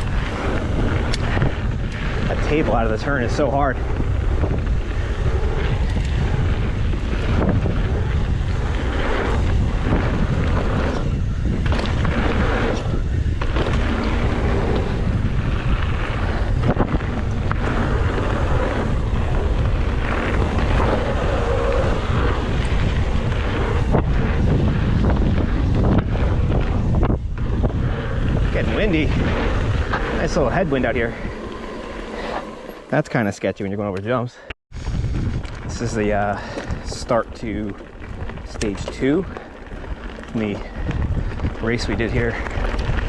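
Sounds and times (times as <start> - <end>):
wind buffeting microphone: 0.0 - 33.8, 34.7 - 43.0.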